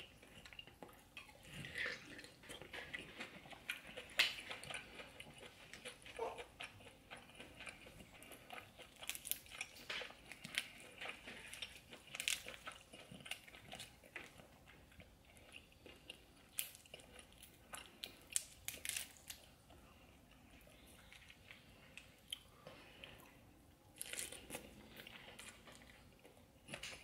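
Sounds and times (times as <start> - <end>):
close chewing and crunching: 0.0 - 27.0.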